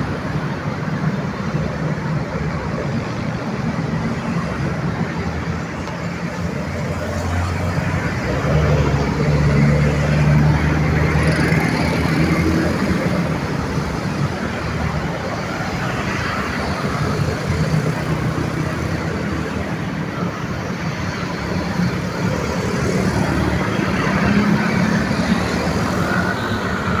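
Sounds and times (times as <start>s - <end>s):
vehicle engines running: 0.0s - 27.0s.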